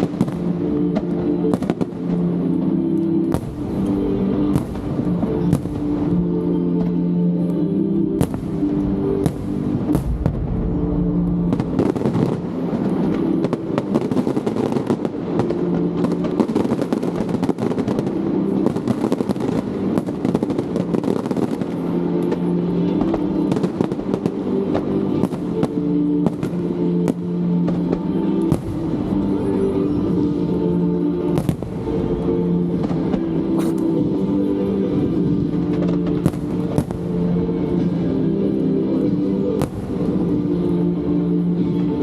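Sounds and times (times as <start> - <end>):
fireworks bursting and crackling: 0.0 - 42.0
music with sustained low notes: 0.0 - 42.0.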